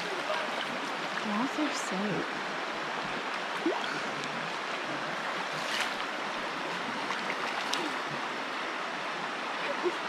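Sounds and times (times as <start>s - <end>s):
creek water rushing over rapids: 0.0s - 10.0s.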